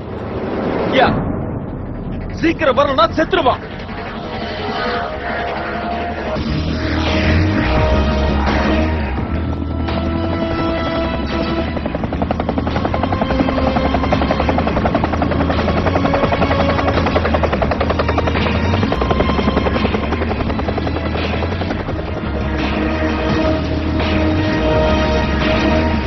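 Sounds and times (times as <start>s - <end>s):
helicopter rotor chopping: 0.0s - 26.0s
orchestral film score: 0.0s - 26.0s.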